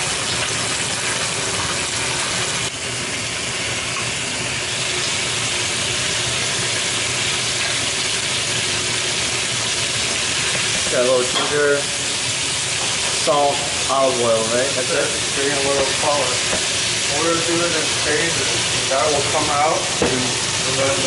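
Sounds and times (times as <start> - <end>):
fish sizzling in hot oil: 0.0 - 21.0.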